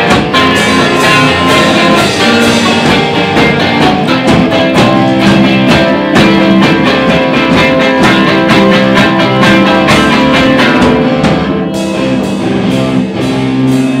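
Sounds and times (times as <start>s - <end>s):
drum kit: 0.0s - 14.0s
electric guitars playing blues: 0.0s - 14.0s.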